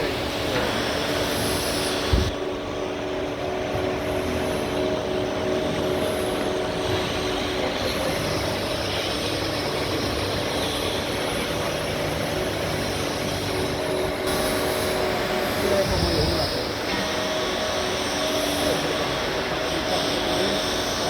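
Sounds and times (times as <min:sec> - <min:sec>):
grinder machine humming: 0:00.0 - 0:21.0.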